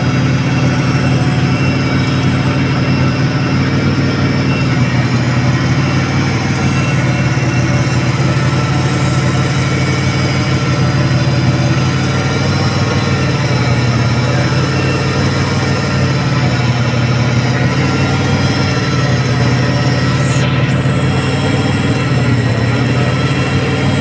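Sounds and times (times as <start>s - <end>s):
forklift engine idling: 0.0s - 24.0s.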